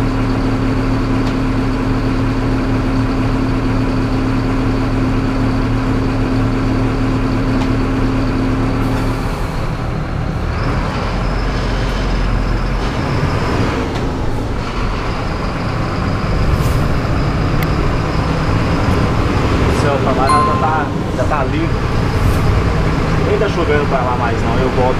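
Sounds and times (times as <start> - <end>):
bus diesel engine: 0.0 - 20.2, 21.3 - 24.9.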